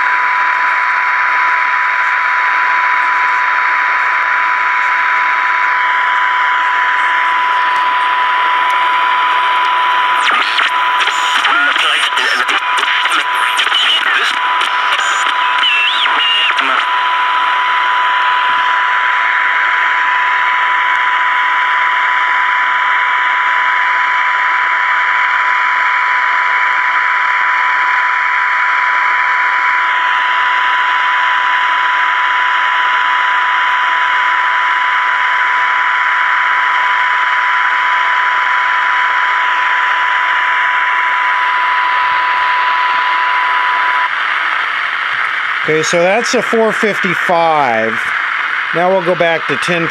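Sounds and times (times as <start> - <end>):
radio test tone: 0.0 - 49.9
radio hiss: 0.4 - 49.9.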